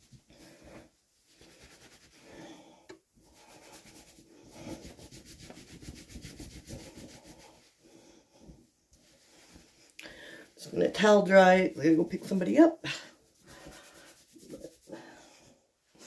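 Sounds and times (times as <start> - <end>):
towel rubbing wet hair: 0.0 - 9.9, 10.6 - 15.1.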